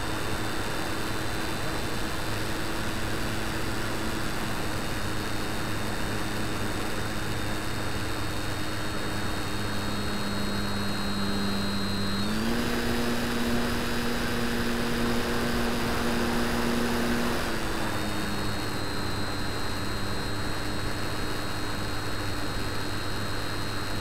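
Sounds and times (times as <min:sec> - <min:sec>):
model plane motor humming: 0:00.0 - 0:24.0.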